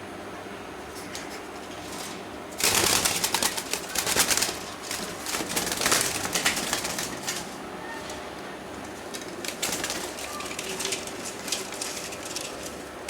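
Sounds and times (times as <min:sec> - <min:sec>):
birds fluttering: 0:00.8 - 0:13.0.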